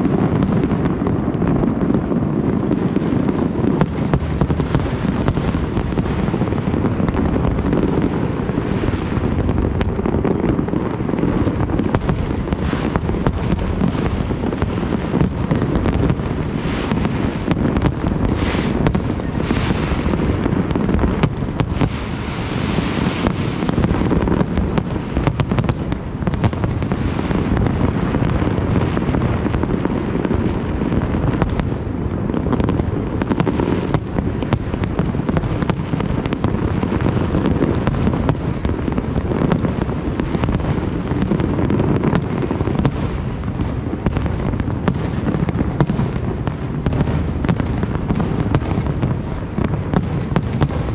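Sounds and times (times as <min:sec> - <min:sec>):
fireworks bangs and cracks: 0:00.0 - 0:50.9
fireworks hissing crackle: 0:00.0 - 0:50.9.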